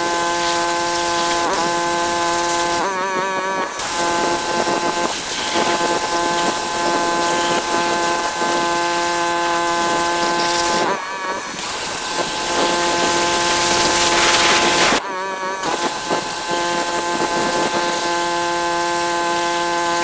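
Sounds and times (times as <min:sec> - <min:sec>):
water jet spraying: 0:00.0 - 0:03.0, 0:03.8 - 0:15.0, 0:15.7 - 0:20.0
pressure washer motor humming: 0:00.0 - 0:20.0.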